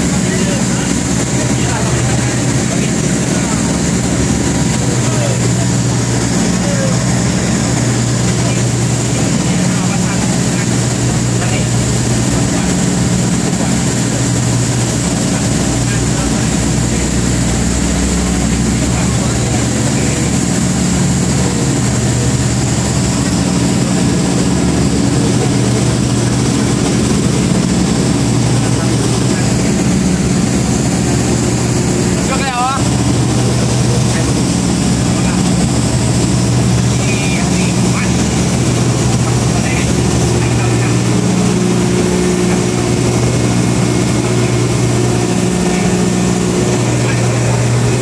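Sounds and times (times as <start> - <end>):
heavy machinery humming: 0.0 - 48.0.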